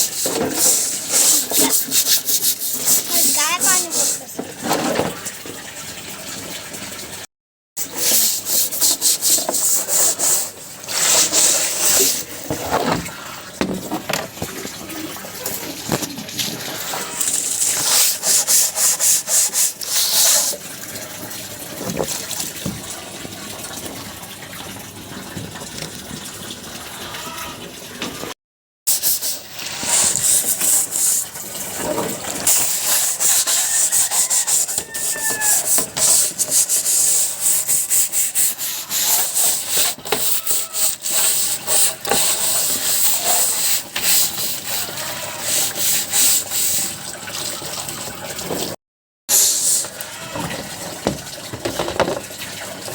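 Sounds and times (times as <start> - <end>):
scrubbing tray: 0.0 - 5.4, 7.8 - 26.3, 29.1 - 52.3.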